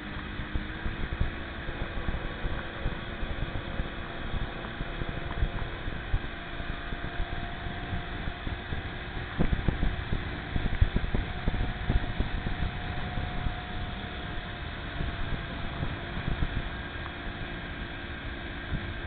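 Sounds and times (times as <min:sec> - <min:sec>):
faint steady whine: 0:00.0 - 0:19.0
motorboat engine drone: 0:00.0 - 0:19.0
wind on microphone: 0:00.0 - 0:19.0.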